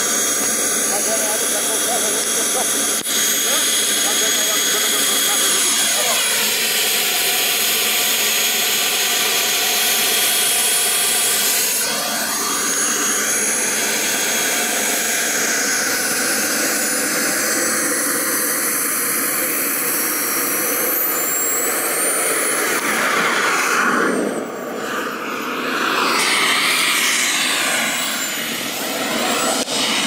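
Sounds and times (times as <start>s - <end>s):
small jet turbine whine: 0.0s - 30.0s.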